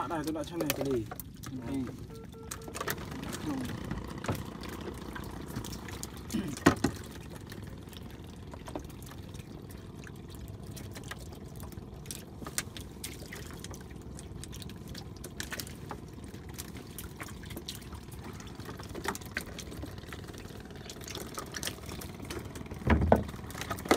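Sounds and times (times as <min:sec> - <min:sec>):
water splashing and dripping: 0:00.0 - 0:23.9.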